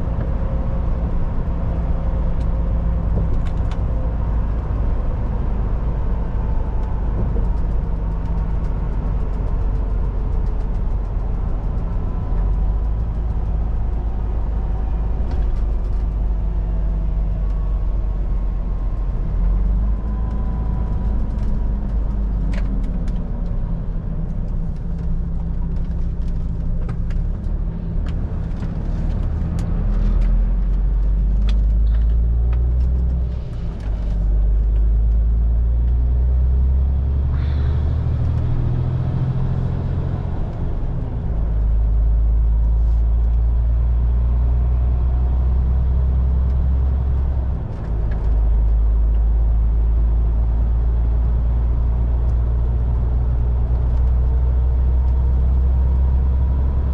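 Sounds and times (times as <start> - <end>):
diesel truck engine drone: 0.0 - 56.9
road noise: 0.0 - 56.9.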